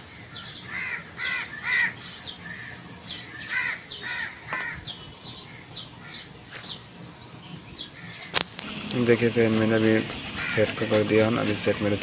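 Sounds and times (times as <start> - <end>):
harsh bird calls: 0.0 - 11.8.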